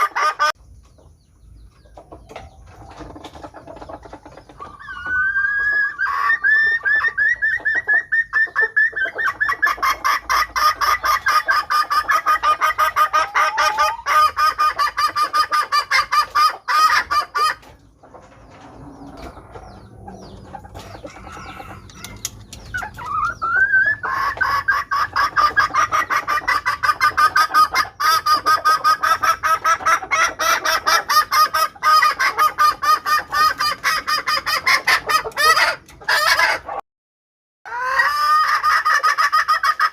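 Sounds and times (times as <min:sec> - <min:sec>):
hen cackling: 0:00.0 - 0:00.6, 0:02.8 - 0:36.8, 0:37.7 - 0:39.9.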